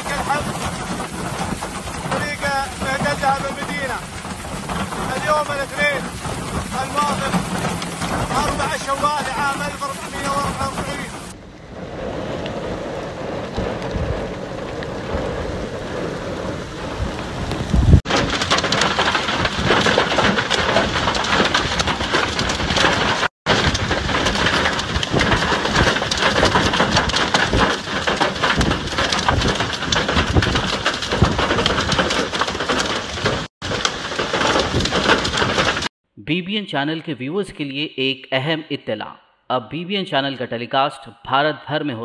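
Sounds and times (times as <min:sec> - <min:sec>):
hail and heavy rain pelting ground: 0:00.0 - 0:35.9.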